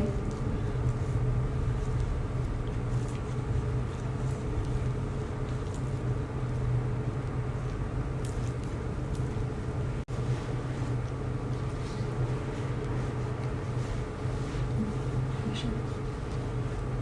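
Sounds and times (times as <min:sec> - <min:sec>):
machine cooling unit humming: 0:00.0 - 0:17.0.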